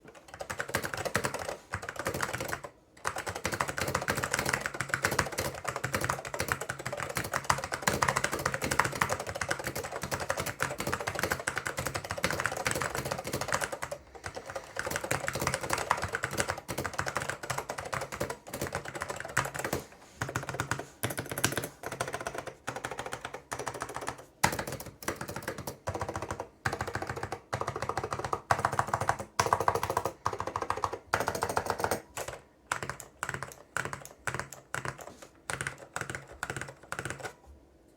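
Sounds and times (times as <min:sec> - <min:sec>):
keyboard typing clicks: 0:00.1 - 0:37.4.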